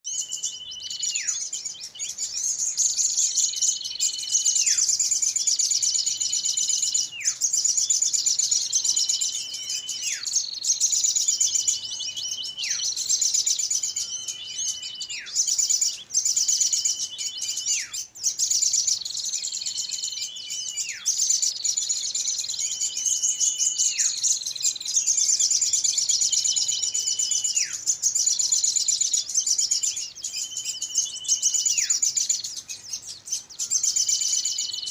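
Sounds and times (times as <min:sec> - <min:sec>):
small birds chattering: 0:00.0 - 0:34.9.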